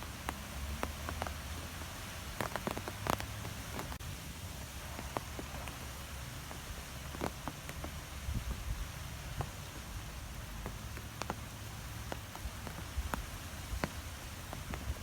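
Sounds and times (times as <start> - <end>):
light ticks and taps: 0.0 - 4.0, 4.9 - 15.0
wind blowing through trees: 0.0 - 15.0.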